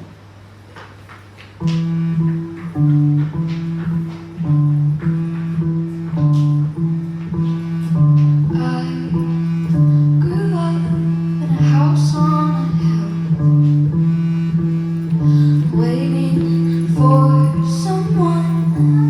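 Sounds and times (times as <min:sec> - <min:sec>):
amplifier hum: 0:01.6 - 0:19.0
electric bass guitar plucking: 0:01.6 - 0:19.0.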